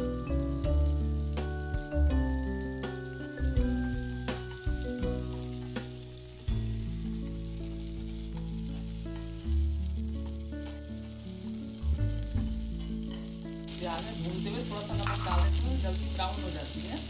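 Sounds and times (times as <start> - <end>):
background music with held notes: 0.0 - 17.0
onions sizzling in oil: 0.0 - 17.0.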